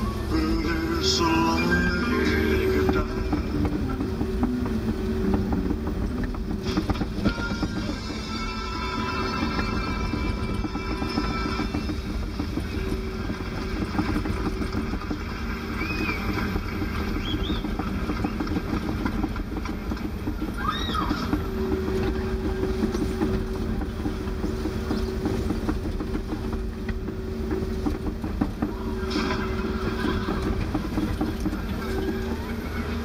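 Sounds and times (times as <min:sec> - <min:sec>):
diesel engine running: 0:00.0 - 0:33.0
steel tracks clattering: 0:00.0 - 0:33.0.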